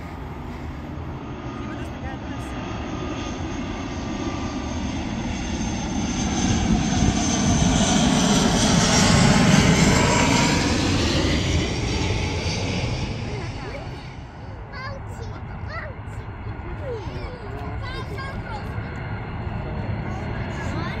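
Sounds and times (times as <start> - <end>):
turboprop plane passing overhead: 0.0 - 21.0.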